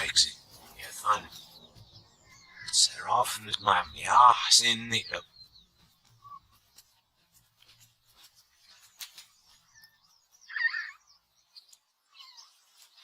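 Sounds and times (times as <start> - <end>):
high chirping animal calls: 0.0 - 7.0, 9.4 - 13.0.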